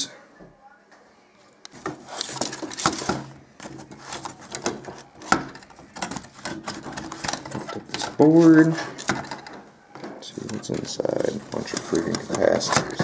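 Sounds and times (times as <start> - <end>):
metal and plastic parts rattling: 1.8 - 13.0.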